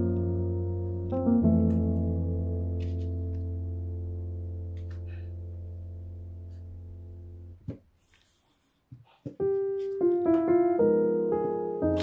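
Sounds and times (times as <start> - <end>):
piano music: 0.0 - 7.6, 9.3 - 12.0.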